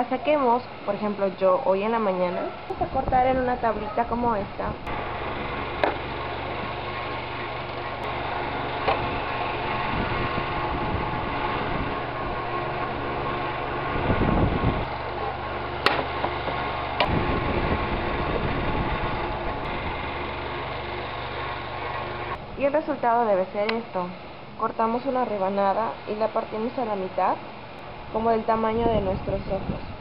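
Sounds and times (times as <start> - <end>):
electric fan humming: 0.0 - 30.0.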